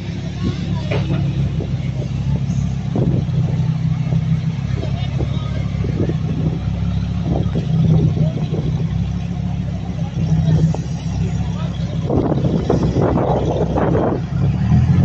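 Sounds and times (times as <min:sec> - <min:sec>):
background voices: 0:00.0 - 0:15.0
car engine humming: 0:00.0 - 0:15.0.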